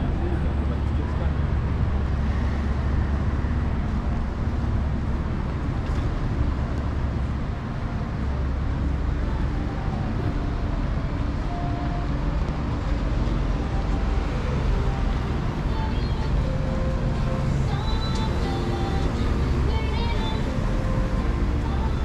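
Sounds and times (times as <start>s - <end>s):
steady street traffic rumble: 0.0s - 22.0s.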